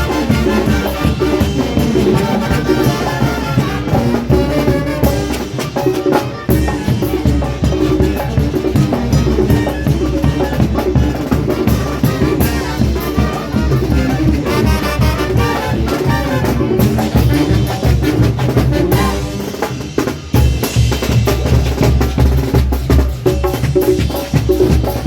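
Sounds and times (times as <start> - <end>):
brass band playing dance tune: 0.0 - 25.0.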